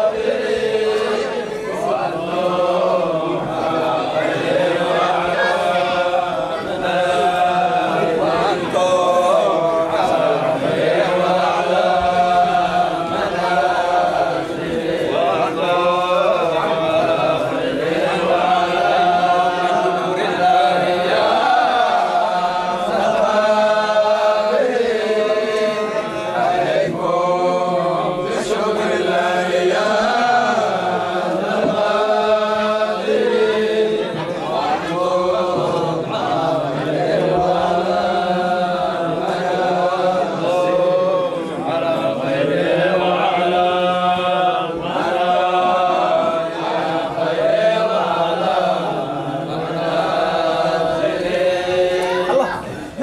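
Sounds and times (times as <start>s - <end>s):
men chanting together: 0.0s - 53.0s.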